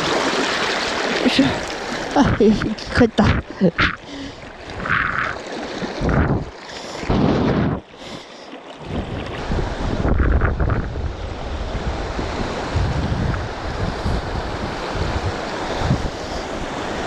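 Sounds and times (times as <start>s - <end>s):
river water rushing: 0.0s - 10.1s, 11.0s - 17.0s
wind buffeting microphone: 1.2s - 7.9s, 8.8s - 17.0s.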